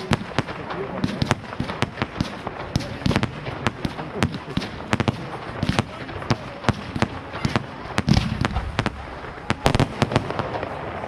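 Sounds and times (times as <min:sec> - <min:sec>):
distant fireworks bangs and crackling: 0:00.0 - 0:11.0
fireworks sharp bangs: 0:00.0 - 0:11.0.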